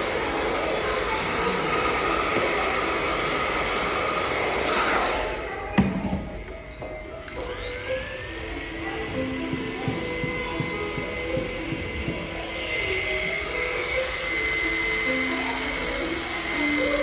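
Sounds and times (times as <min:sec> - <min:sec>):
hair dryer blowing: 0:00.0 - 0:17.0
shop noise: 0:00.0 - 0:17.0.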